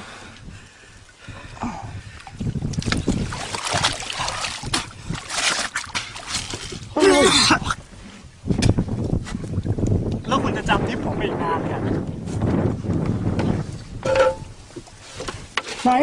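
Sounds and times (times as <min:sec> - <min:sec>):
water sloshing and splashing: 0:00.4 - 0:11.0, 0:11.9 - 0:16.0.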